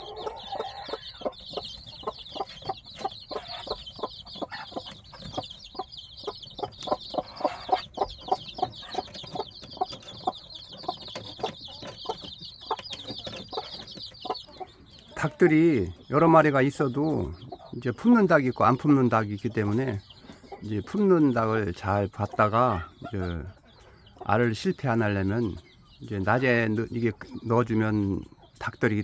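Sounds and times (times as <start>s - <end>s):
chicks peeping: 0.0s - 29.0s
hen clucking: 0.0s - 29.0s.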